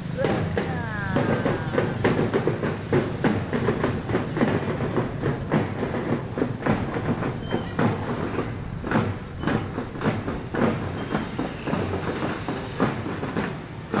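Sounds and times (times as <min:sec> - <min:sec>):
marching drum band: 0:00.0 - 0:14.0
street noise rumble: 0:00.0 - 0:14.0.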